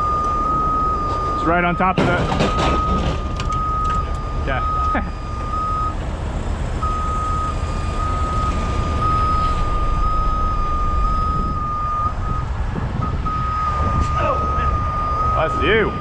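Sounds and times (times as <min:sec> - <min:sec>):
vehicle backup alarm beeping: 0:00.0 - 0:06.0, 0:06.8 - 0:16.0
low diesel engine rumble: 0:00.0 - 0:16.0.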